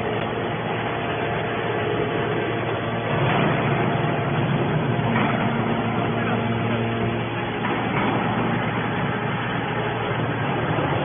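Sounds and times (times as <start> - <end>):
machine hum with faint tones: 0.0 - 11.0.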